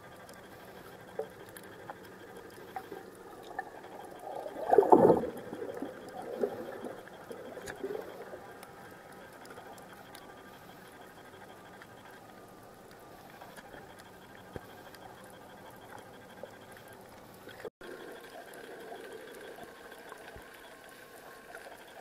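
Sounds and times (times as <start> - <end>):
faint clicks underwater: 0.0 - 22.0
underwater rush of water and bubbles: 0.1 - 22.0.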